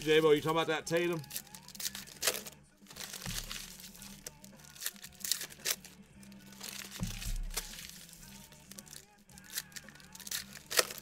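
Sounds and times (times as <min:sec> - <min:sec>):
card wrappers crinkling: 0:00.0 - 0:11.0.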